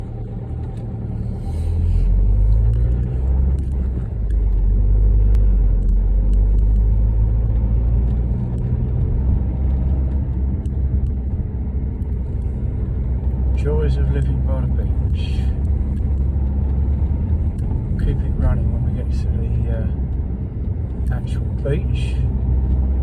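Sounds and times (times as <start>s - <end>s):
car engine and road noise: 0.0s - 23.0s
wind buffeting car: 0.0s - 23.0s.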